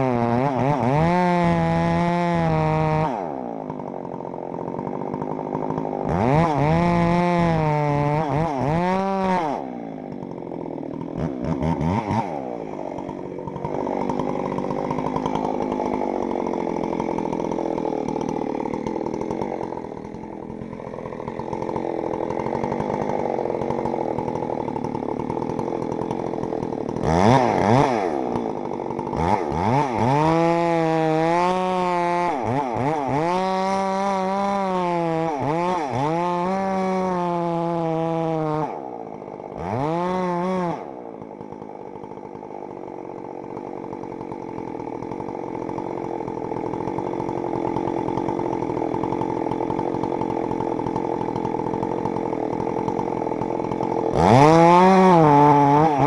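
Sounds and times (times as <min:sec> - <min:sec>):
chainsaw revving: 0:00.0 - 0:56.0.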